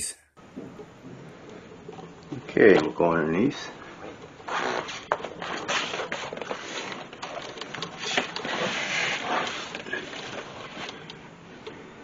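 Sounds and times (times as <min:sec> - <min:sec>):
rustling on cardboard: 0:01.2 - 0:11.2.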